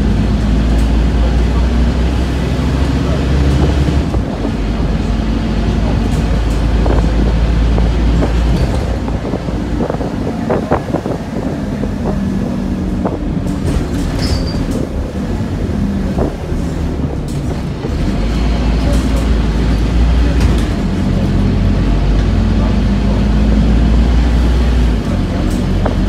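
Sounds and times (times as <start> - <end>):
bus diesel engine drone: 0.0 - 26.0
rattles and knocks of bus body: 0.0 - 26.0
road rumble: 0.0 - 26.0.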